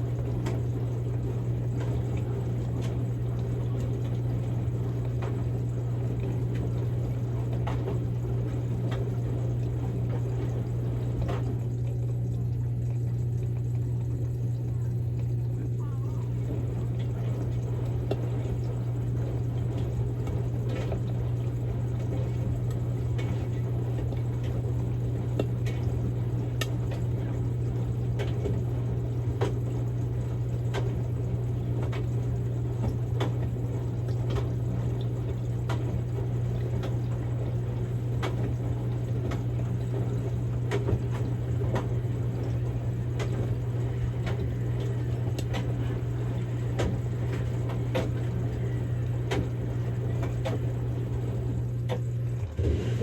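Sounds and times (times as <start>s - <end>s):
motor hum: 0.0s - 53.0s
water sloshing in washing machine drum: 0.0s - 53.0s.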